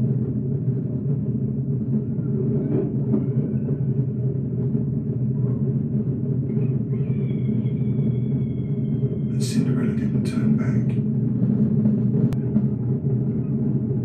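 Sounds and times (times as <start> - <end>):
muffled underwater rumble: 0.0 - 14.0.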